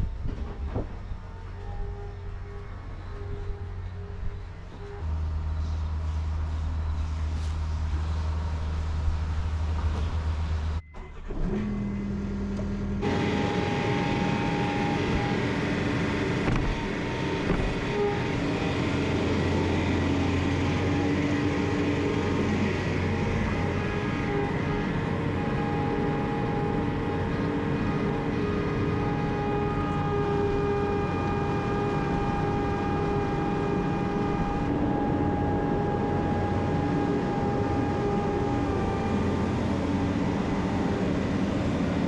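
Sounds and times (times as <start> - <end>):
farm machinery engine running: 0.0 - 42.0.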